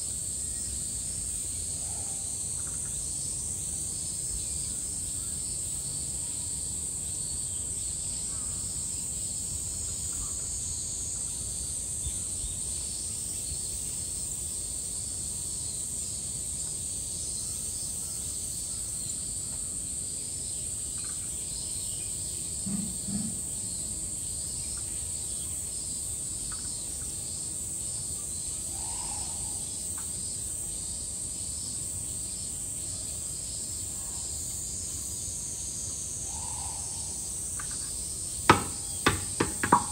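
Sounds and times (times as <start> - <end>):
cicadas shrilling: 0.0 - 39.9
pulsing insect call: 0.0 - 39.9.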